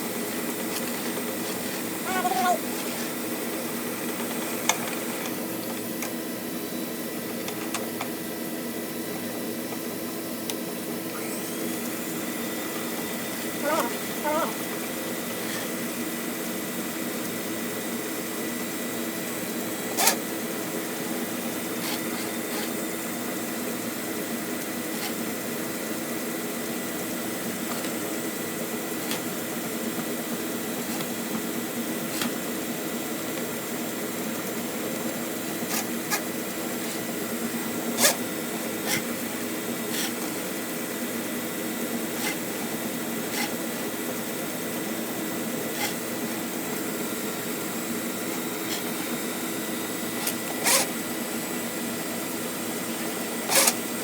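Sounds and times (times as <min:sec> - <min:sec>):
drain-cleaning machine running: 0:00.0 - 0:54.0.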